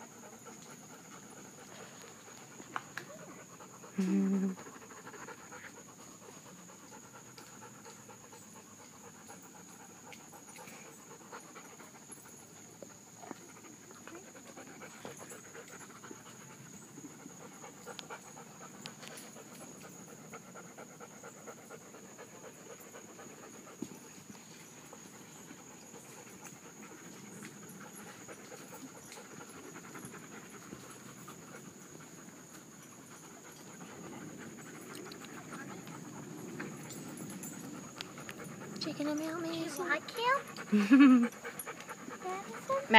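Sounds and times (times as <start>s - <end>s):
dogs panting: 0.0s - 42.9s.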